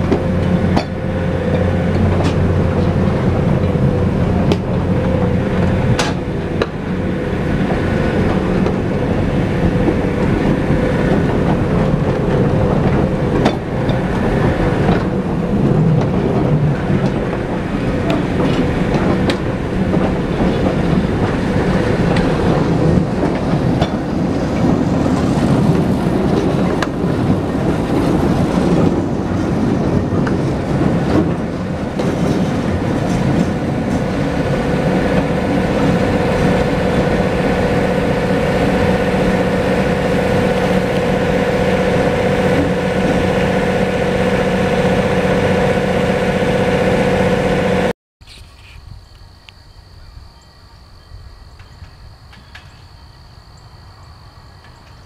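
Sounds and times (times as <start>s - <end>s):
train cars rolling over rails: 0.0s - 47.9s
diesel locomotive engine: 0.0s - 48.4s.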